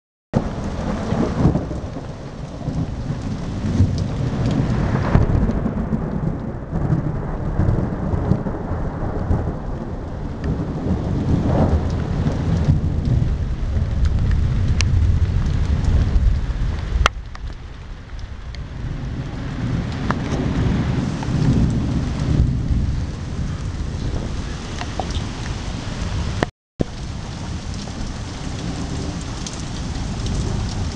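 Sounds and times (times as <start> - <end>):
heavy rain pouring: 0.4 - 30.9
thunder rumble: 0.4 - 30.9
wind gusting through trees: 0.4 - 30.9.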